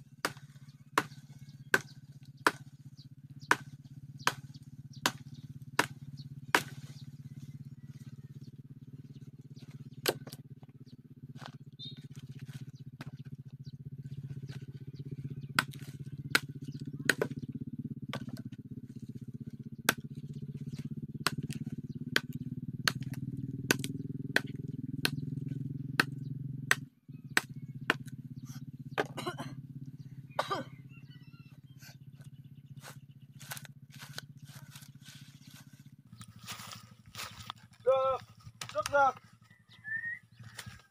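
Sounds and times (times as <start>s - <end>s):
steady low hum: 0.0s - 40.9s
knife chopping dry branches: 0.1s - 13.4s, 14.1s - 29.5s, 31.8s - 39.4s, 40.3s - 40.9s.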